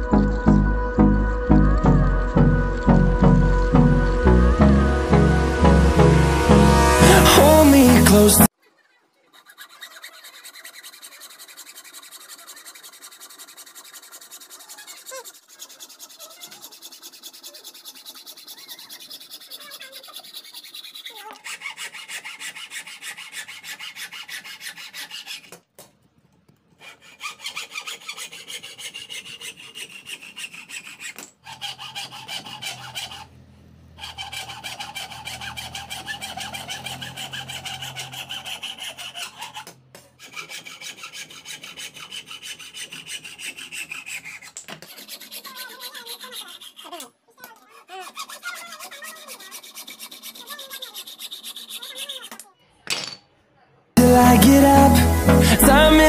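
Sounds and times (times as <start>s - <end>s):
hacksaw sawing wood: 1.2s - 8.5s, 9.2s - 25.7s, 26.6s - 52.5s.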